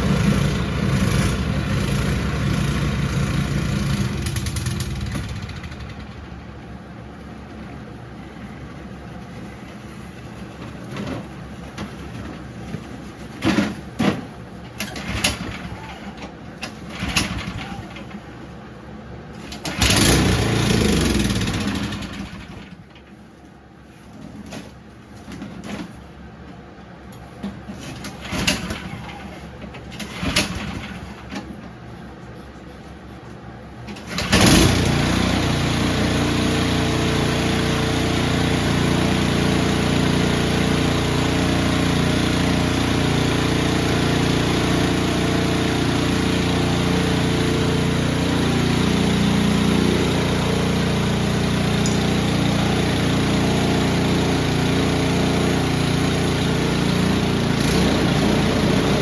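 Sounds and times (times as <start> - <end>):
snowblower engine starting and running: 0.0 - 23.1, 27.1 - 31.8, 33.7 - 59.0.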